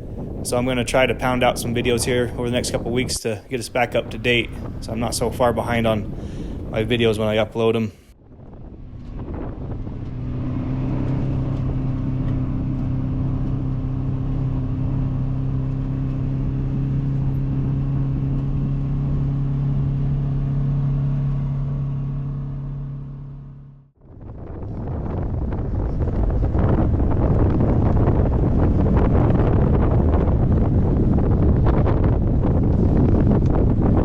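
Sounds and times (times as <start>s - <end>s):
wind on microphone: 0.0s - 22.4s, 24.0s - 34.0s
vehicle engine running: 3.7s - 7.0s, 8.3s - 34.0s.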